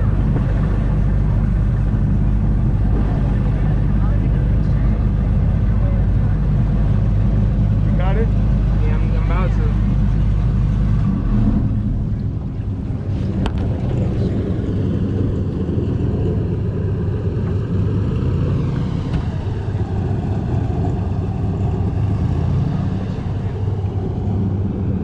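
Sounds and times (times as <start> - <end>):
airboat engine and propeller: 0.0 - 25.0.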